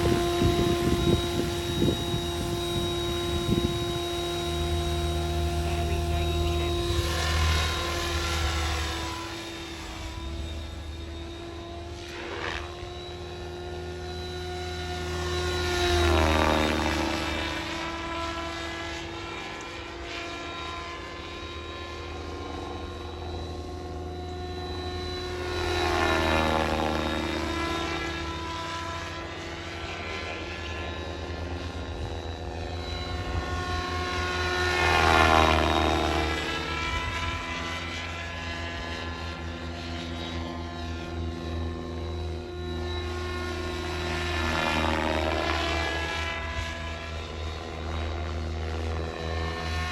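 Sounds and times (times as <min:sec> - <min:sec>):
model helicopter rotors whining: 0:00.0 - 0:49.9.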